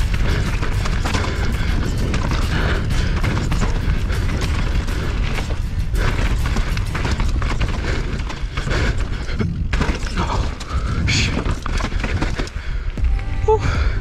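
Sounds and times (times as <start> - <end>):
bike frame and chain rattling: 0.0 - 12.9
tyres crunching over gravel: 0.0 - 13.0
wind buffeting microphone: 0.0 - 14.0.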